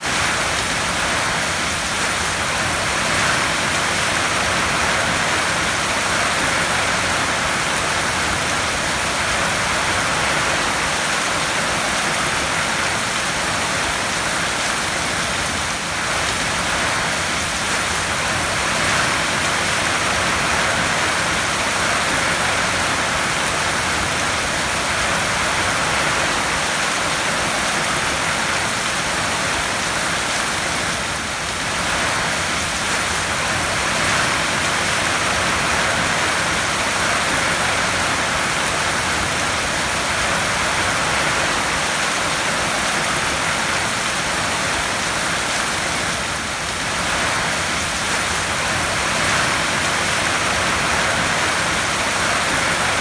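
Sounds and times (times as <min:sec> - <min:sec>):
rain on a tin roof: 0:00.0 - 0:53.0.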